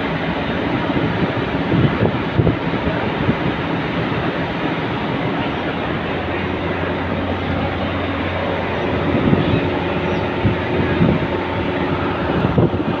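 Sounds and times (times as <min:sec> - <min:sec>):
heavy engines rumbling: 0:00.0 - 0:13.0.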